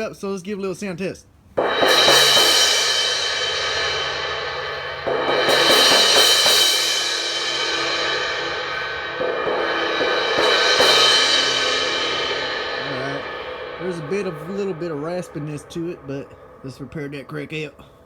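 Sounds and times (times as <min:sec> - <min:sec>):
cracked crash cymbal ringing: 0:01.6 - 0:18.0.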